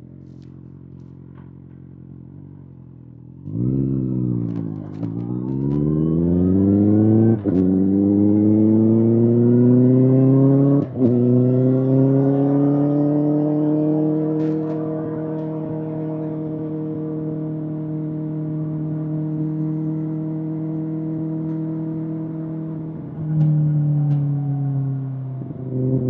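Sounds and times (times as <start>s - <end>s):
motorcycle engine idling and accelerating: 0.0s - 26.0s.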